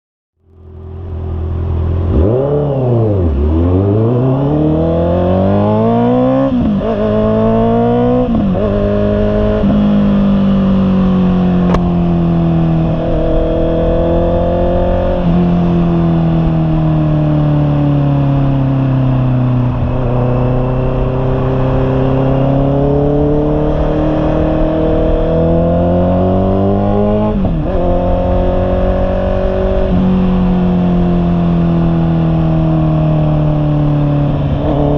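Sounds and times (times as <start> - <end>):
motorcycle engine revving: 0.4 - 34.9.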